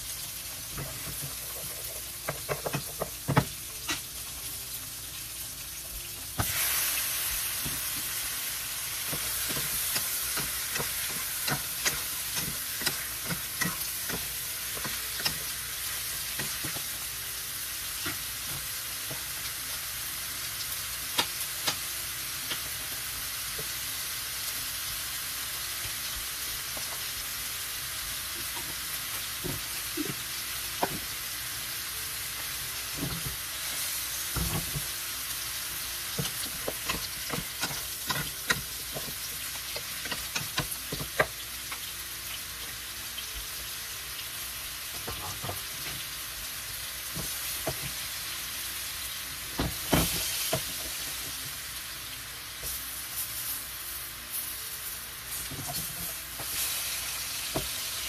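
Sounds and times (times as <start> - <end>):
seafood sizzling in pans: 0.0 - 58.0.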